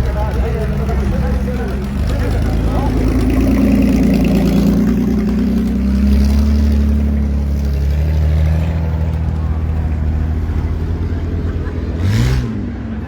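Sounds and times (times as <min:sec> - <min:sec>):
loud vehicle engine running: 0:00.0 - 0:13.0.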